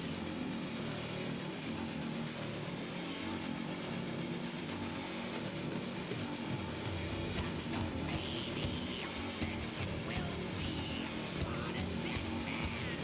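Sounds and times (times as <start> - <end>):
motorcycle engines humming: 0.1 - 13.0.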